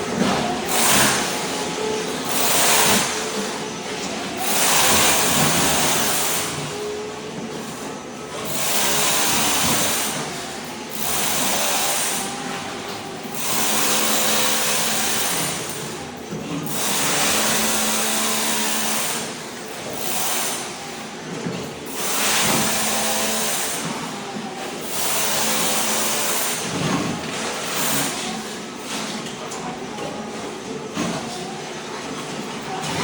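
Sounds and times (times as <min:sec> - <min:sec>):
floor scraper blade grinding: 0:00.0 - 0:33.0.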